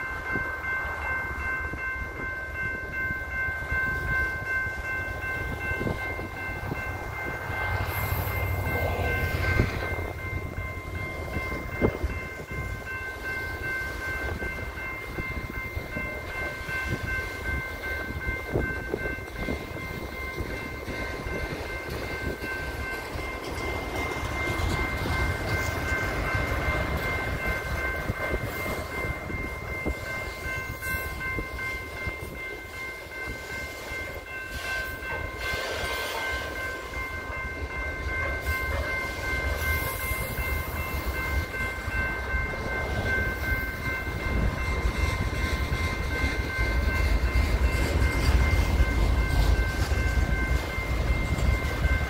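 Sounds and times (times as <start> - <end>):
crossing warning bell: 0.0 - 52.0
train wheels rumbling on rail: 0.0 - 52.0.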